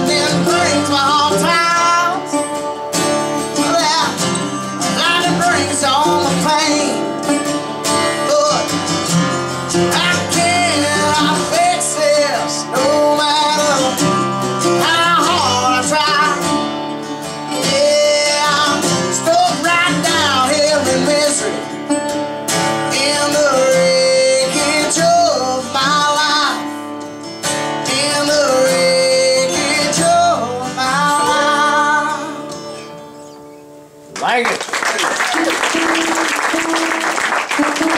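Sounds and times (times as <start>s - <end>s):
man singing: 0.0s - 21.8s, 22.6s - 26.8s, 27.7s - 32.9s
strummed acoustic guitars: 0.0s - 34.4s, 35.0s - 37.9s.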